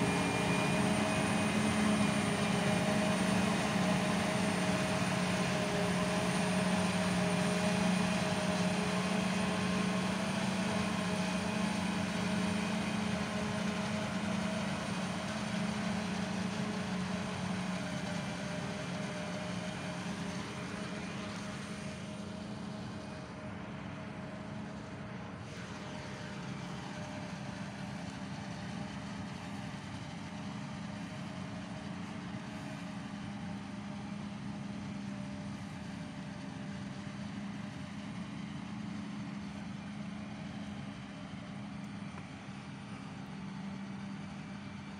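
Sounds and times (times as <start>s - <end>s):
forage harvester machine drone: 0.0s - 44.9s.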